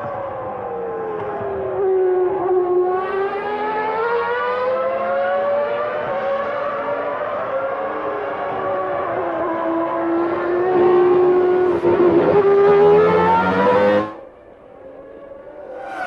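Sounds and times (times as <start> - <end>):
race car engine at high revs: 0.1 - 14.3.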